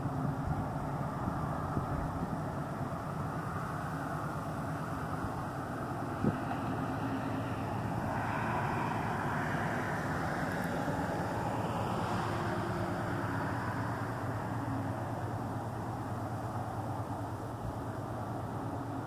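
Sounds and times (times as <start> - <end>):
distant road traffic: 0.0 - 19.0
wind: 0.0 - 19.0.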